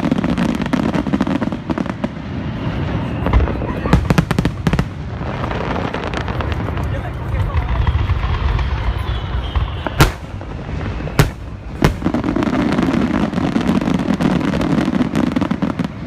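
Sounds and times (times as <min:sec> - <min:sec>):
fireworks booming: 0:00.0 - 0:16.0
rumble of firework bursts: 0:00.0 - 0:16.0.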